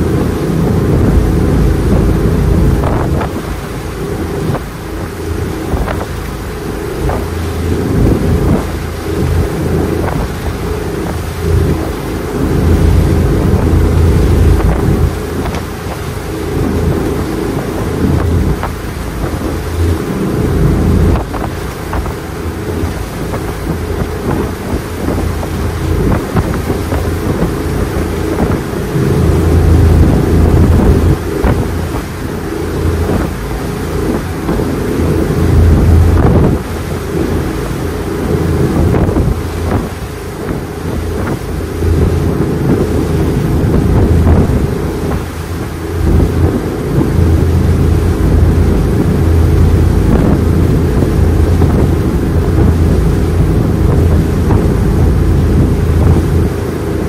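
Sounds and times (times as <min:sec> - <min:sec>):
power boat motor running: 0:00.0 - 0:57.0
water rushing against hull: 0:00.0 - 0:57.0
wind buffeting microphone: 0:00.0 - 0:57.0.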